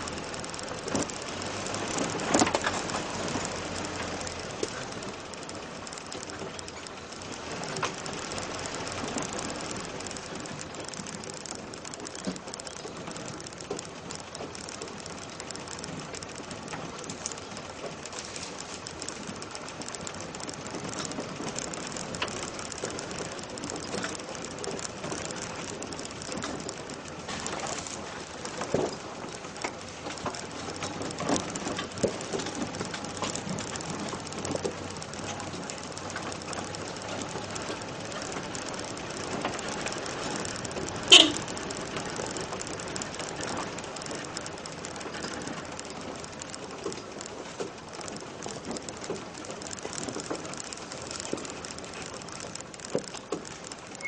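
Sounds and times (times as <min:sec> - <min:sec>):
off-road vehicle rattling and rumbling: 0:00.0 - 0:54.0.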